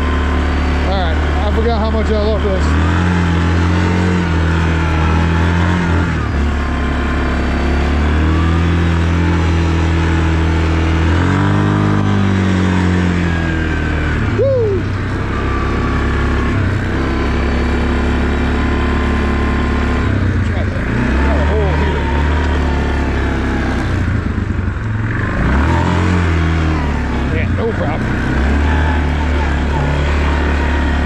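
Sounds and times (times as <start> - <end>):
atv engine running: 0.0 - 31.0.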